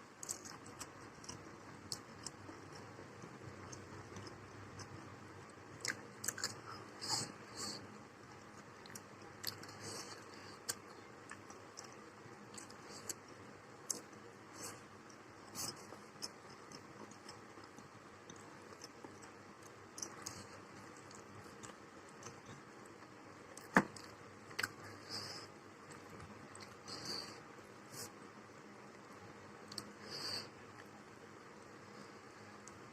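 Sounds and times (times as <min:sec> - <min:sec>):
person chewing: 0:00.2 - 0:07.8, 0:08.4 - 0:28.2.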